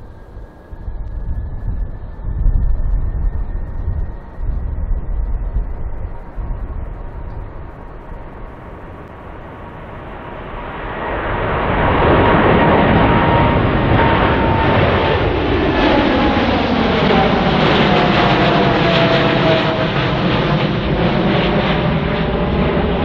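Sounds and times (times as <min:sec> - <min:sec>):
jet engine whine: 0:00.0 - 0:23.0
jet engines roaring: 0:00.0 - 0:23.0.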